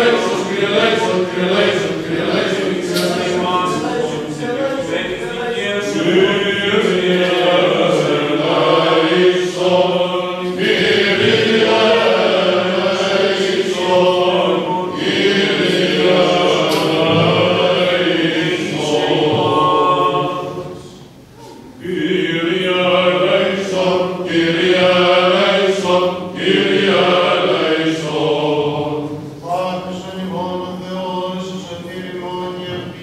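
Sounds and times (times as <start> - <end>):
voices chanting a slow hymn: 0.0 - 33.0.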